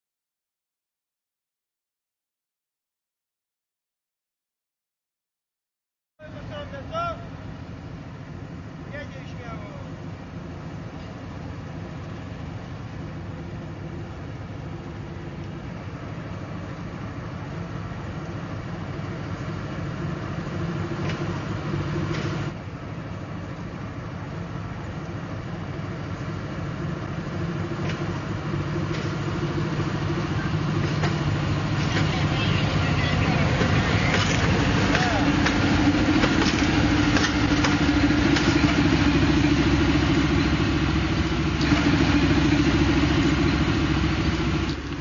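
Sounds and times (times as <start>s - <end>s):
locomotive diesel engine running: 6.2s - 45.0s.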